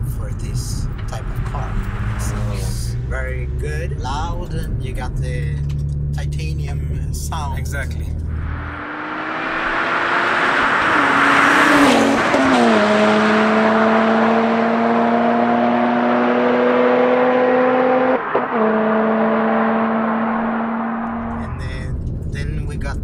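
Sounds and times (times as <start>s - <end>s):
loud car engine revving: 0.5s - 6.5s, 7.8s - 21.8s.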